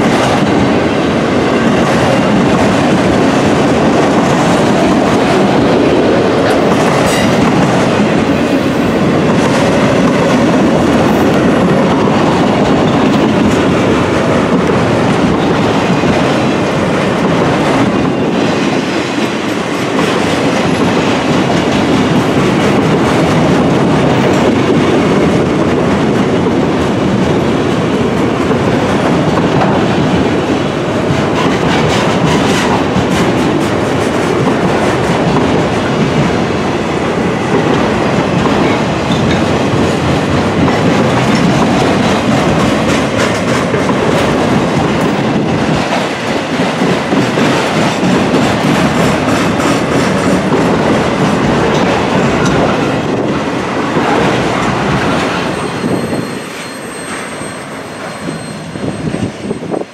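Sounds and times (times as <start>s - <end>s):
clickety-clack over rail joints: 0.0s - 59.9s
steel wheels rumbling on rail: 0.0s - 59.9s.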